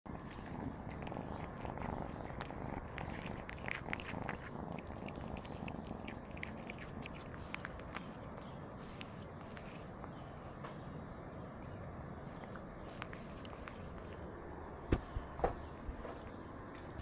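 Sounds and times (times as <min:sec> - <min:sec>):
cat purring: 0:00.1 - 0:17.0.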